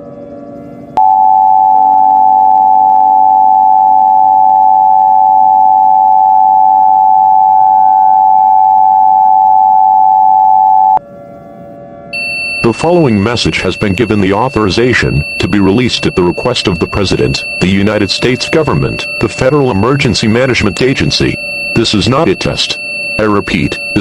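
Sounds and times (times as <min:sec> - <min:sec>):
loud steady electronic tone: 0:00.6 - 0:24.0.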